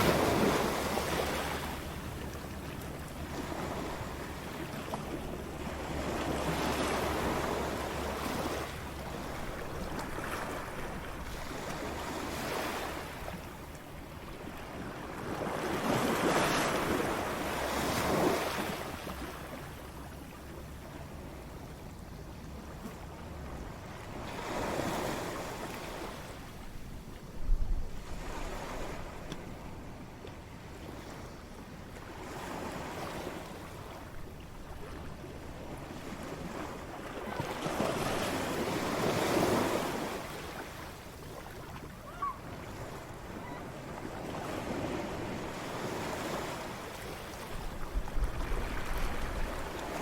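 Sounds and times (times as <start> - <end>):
ocean waves breaking: 0.0 - 50.0.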